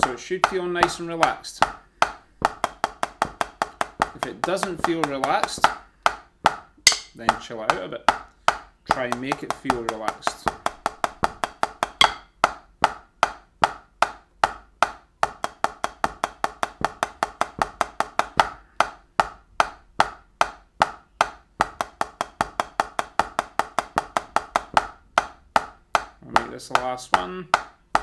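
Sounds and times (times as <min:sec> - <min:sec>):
drumsticks tapping snare: 0:00.0 - 0:28.0.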